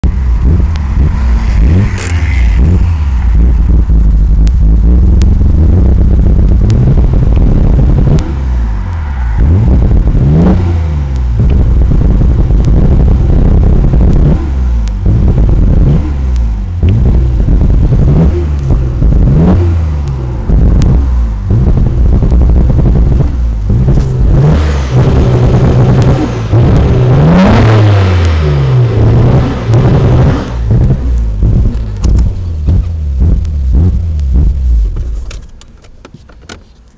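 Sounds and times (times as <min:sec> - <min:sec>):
car engine idling and revving: 0:00.0 - 0:36.9
sharp exhaust pops: 0:00.0 - 0:36.9.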